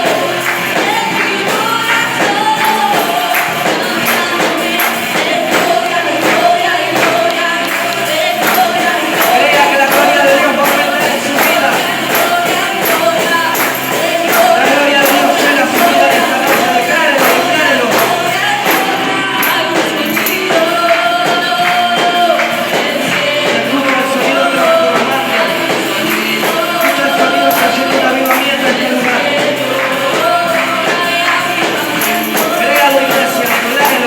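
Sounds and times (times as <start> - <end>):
percussion beat: 0.0 - 34.0
worship song singing: 0.0 - 34.0.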